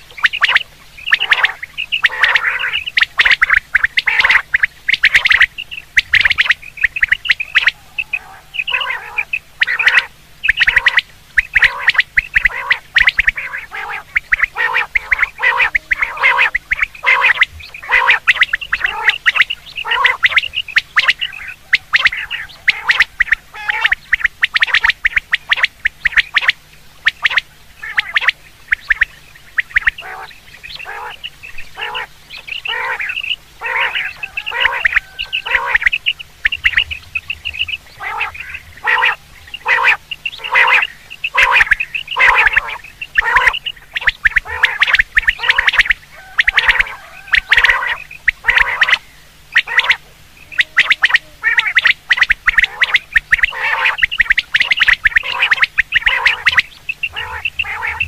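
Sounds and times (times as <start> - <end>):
quail calling: 0.0 - 58.0.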